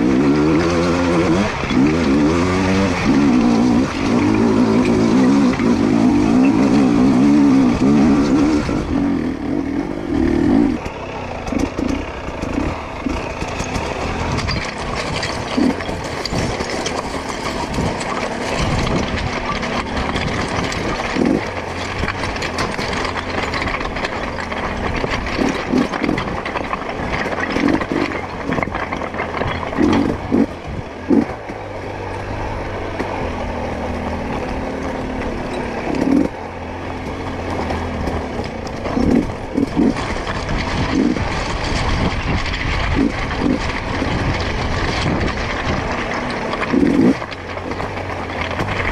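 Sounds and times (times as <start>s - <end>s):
dirt bike engine revving: 0.0s - 26.6s, 27.2s - 48.9s.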